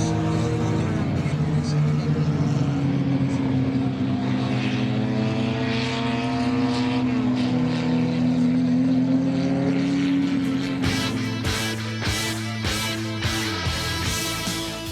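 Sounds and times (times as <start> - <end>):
racing engines at high revs: 0.0 - 14.9.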